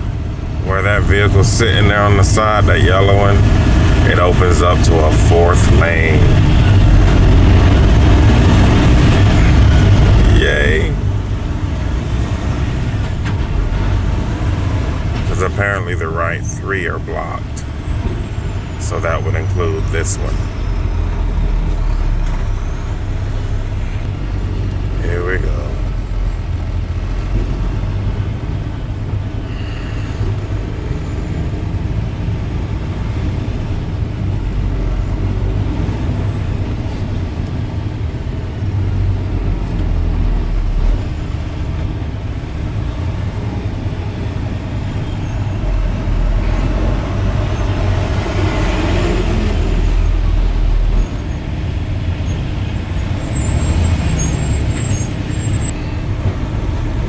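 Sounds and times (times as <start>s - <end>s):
car interior road rumble: 0.0s - 57.0s
traffic noise: 0.0s - 57.0s.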